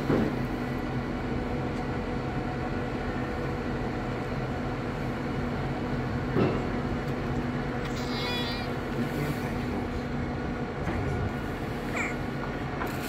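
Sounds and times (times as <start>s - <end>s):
large engine humming: 0.0s - 13.0s.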